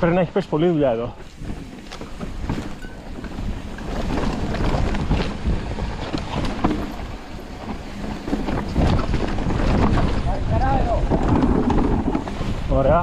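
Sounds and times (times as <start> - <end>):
bike rattling over rough ground: 0.0 - 13.0
tyres rolling on dirt: 0.0 - 13.0
wind buffeting microphone: 1.0 - 13.0.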